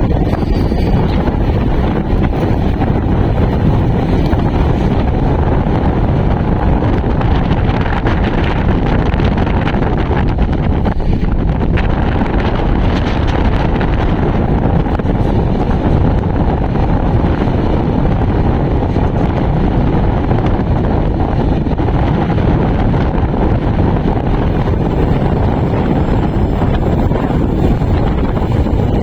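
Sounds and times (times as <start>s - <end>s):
train wheels rumbling on rails: 0.0s - 29.0s
wind buffeting microphone: 0.0s - 29.0s.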